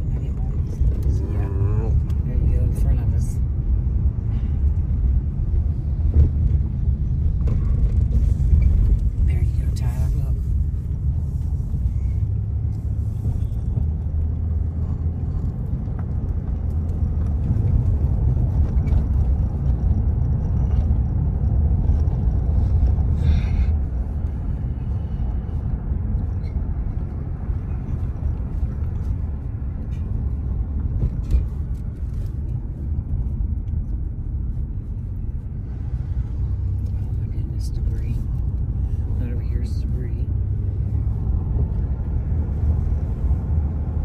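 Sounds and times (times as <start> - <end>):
car cabin engine and tyre rumble: 0.0 - 44.0.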